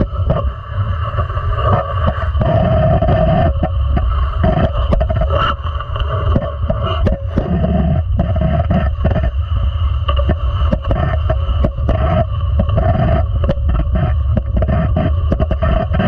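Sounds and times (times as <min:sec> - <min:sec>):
sled blades rumbling on ice: 0:00.0 - 0:16.0.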